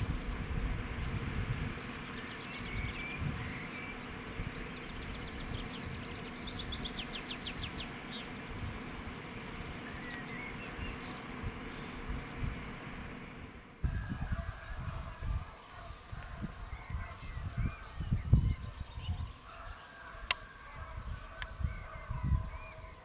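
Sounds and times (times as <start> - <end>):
wind rumbling on microphone: 0.0 - 2.0, 2.6 - 7.8, 8.5 - 12.9, 13.8 - 23.0
small birds chirping: 0.0 - 23.0.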